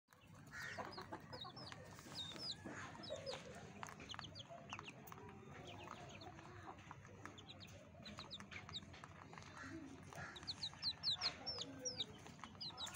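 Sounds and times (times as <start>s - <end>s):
young chicken peeping: 0.1s - 12.9s.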